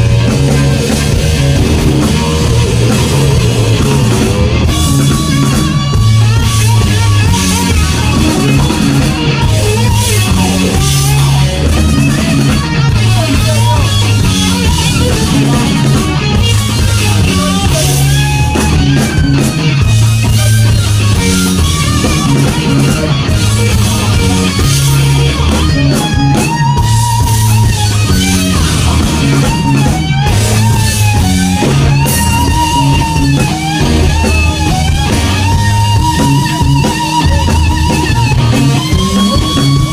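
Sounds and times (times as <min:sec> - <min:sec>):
bass: 0:00.0 - 0:39.9
drums: 0:00.0 - 0:39.9
electric guitar bending lead: 0:00.0 - 0:39.9.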